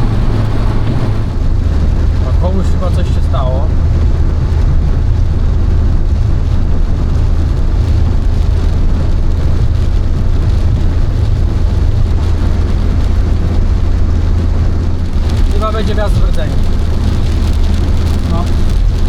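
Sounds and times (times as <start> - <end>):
car engine and tyre drone: 0.0 - 19.0
road noise hiss: 0.0 - 19.0.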